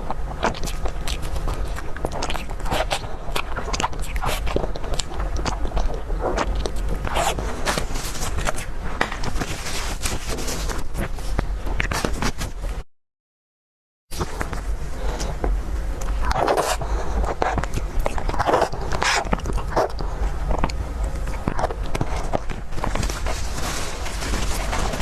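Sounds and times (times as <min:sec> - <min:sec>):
person biting and chewing: 0:00.0 - 0:12.7, 0:14.2 - 0:25.0
sharp crackling clicks and scrapes: 0:00.0 - 0:12.8, 0:16.0 - 0:25.0
steady low hum: 0:00.0 - 0:12.9, 0:14.1 - 0:25.0.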